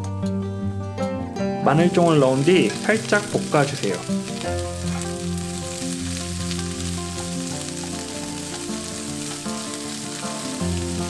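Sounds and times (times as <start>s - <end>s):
soft background music: 0.0s - 11.0s
oil sizzling in a frying pan: 1.8s - 11.0s.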